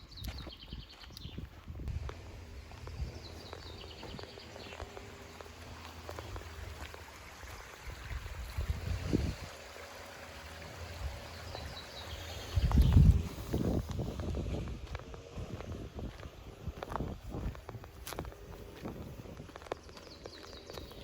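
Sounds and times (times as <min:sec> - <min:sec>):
stream water running: 0:01.8 - 0:21.0.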